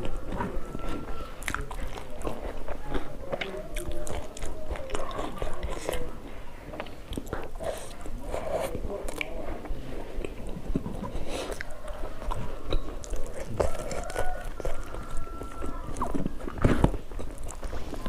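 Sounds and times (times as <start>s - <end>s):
chewing and biting food: 0.0s - 18.0s.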